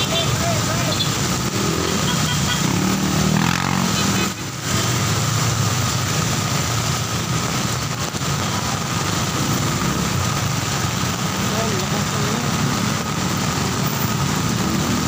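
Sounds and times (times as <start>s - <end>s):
heavy rain hissing: 0.0s - 15.0s
motorcycle and car engines: 0.0s - 15.0s.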